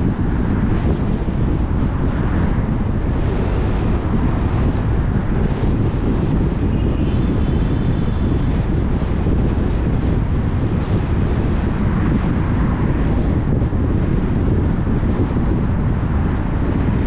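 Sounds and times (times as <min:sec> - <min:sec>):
car driving rumble: 0:00.0 - 0:17.0
wind buffeting microphone: 0:00.0 - 0:17.0.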